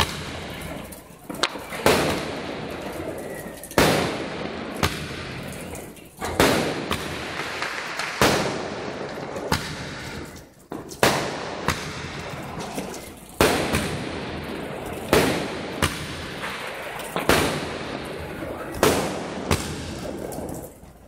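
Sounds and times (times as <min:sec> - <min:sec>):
fireworks bangs: 0:00.0 - 0:20.9
din of fireworks: 0:00.0 - 0:21.0.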